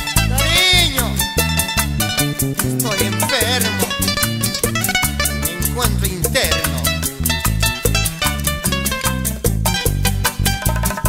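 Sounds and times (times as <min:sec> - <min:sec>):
bachata music: 0:00.0 - 0:11.0.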